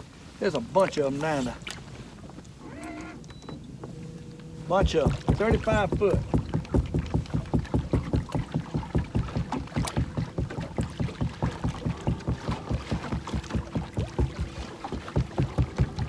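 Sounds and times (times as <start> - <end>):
small waves slapping boat hull: 0.0 - 16.0.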